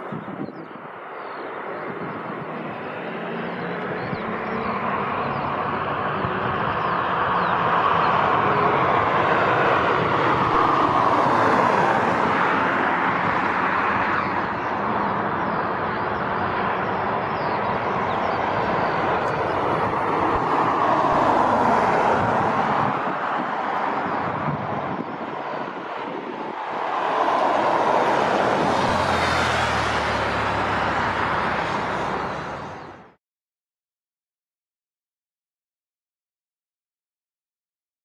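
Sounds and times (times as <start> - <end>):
jet engines at taxi power: 0.0 - 33.2.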